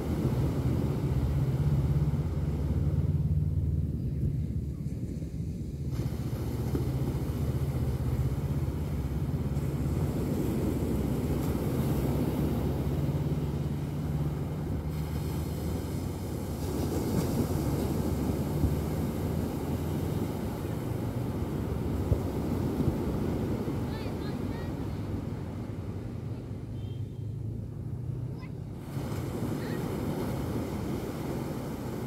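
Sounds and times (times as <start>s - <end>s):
waves washing onto beach: 0.0s - 32.0s.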